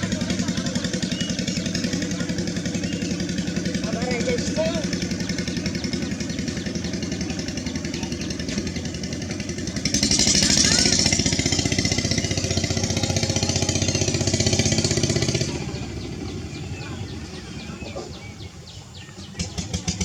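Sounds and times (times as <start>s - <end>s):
engine chugging: 0.0s - 20.0s.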